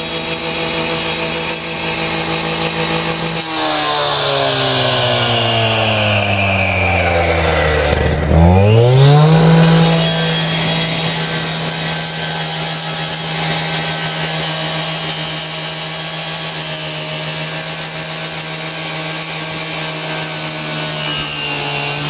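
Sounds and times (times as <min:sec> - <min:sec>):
two-stroke cut-off saw running: 0:00.0 - 0:22.0.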